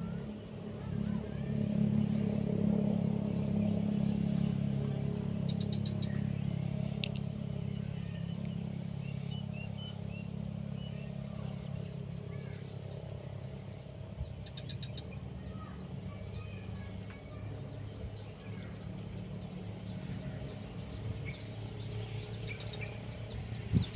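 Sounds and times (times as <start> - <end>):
birds chirping: 0.0 - 23.9
engine drone: 0.0 - 23.9
insects buzzing: 0.0 - 23.9.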